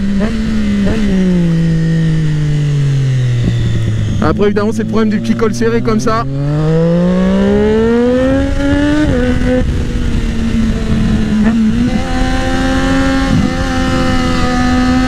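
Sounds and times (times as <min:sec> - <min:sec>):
motorcycle engine under power: 0:00.0 - 0:15.0
wind rushing over microphone: 0:00.0 - 0:15.0.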